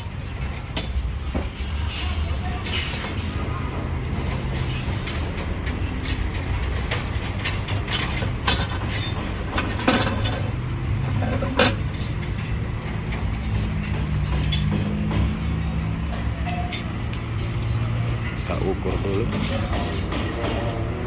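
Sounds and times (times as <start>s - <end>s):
metallic clinks and knocks: 3.8s - 21.0s.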